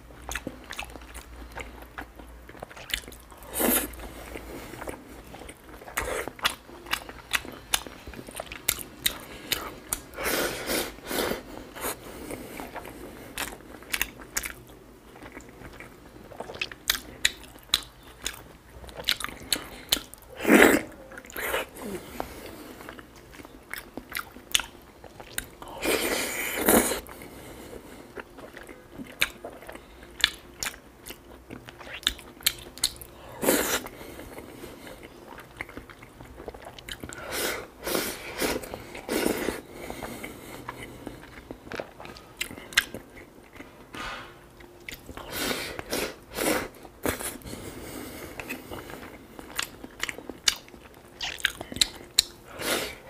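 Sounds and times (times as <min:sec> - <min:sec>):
person chewing food: 0:00.1 - 0:53.0.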